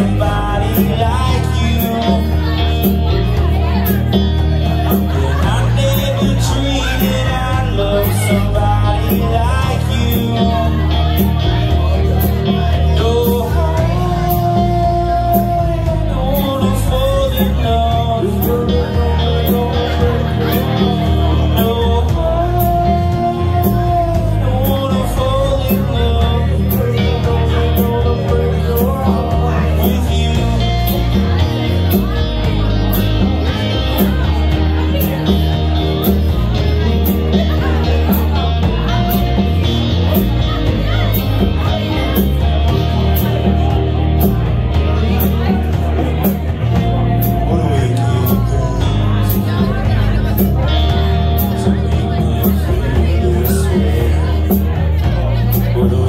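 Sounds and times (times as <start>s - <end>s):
electric guitars: 0.0s - 56.0s
live rock band playing: 0.0s - 56.0s.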